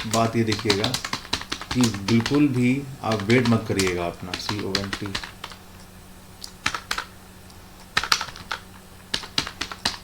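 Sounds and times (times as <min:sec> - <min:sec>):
keyboard keystrokes: 0:00.0 - 0:05.6, 0:06.6 - 0:07.1, 0:08.0 - 0:10.0.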